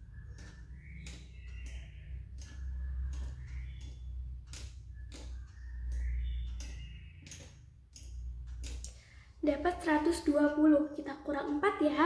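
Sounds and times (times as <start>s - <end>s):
abacus beads clicking: 0.0s - 12.0s.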